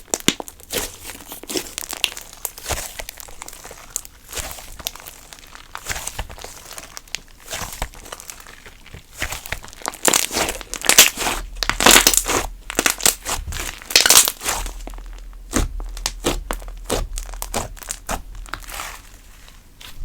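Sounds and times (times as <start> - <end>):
slime squelching and crackling: 0.0 - 20.0.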